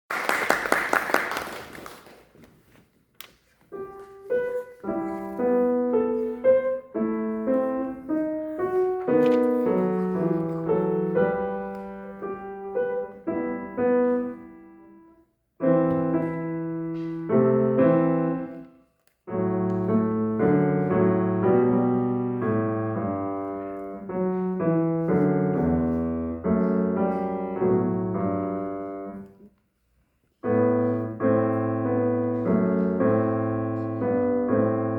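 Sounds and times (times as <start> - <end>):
piano melody over chords: 3.9 - 18.6, 19.3 - 29.4, 30.4 - 34.9.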